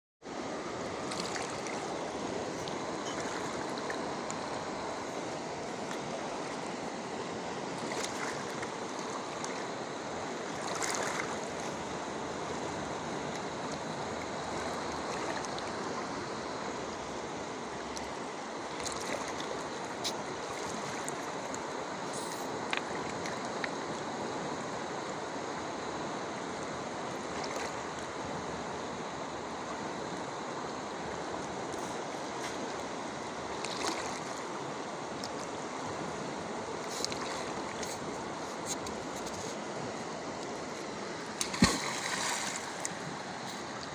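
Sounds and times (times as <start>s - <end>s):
river water flowing over stones: 0.2s - 43.9s.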